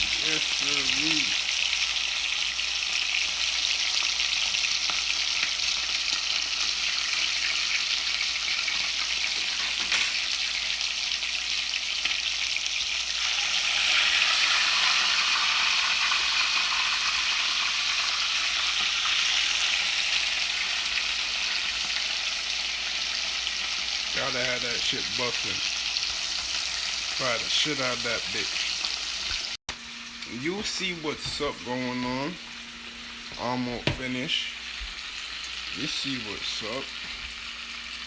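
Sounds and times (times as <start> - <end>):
chicken frying in hot oil: 0.0 - 31.0, 33.0 - 38.0.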